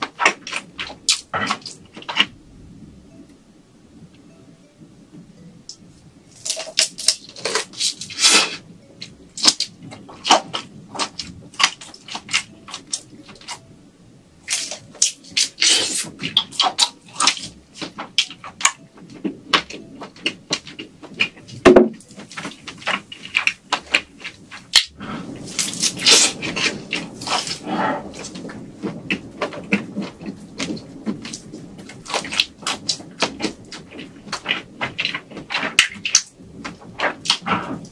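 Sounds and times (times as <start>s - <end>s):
chewing shrimp crackles: 6.3s - 13.6s, 14.4s - 37.9s.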